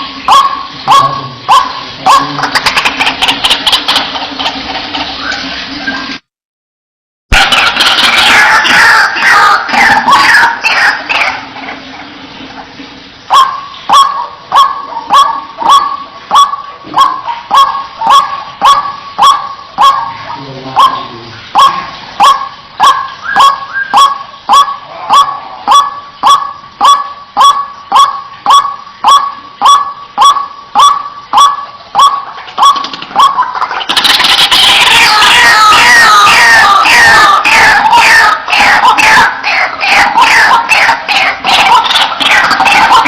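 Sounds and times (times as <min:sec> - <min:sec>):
waterhen harsh calls: 0:00.0 - 0:06.2, 0:07.3 - 0:43.0.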